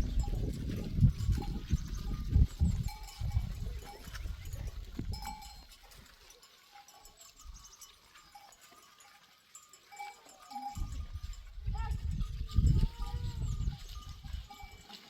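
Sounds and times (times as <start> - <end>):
livestock bells clinking: 0.0 - 15.0.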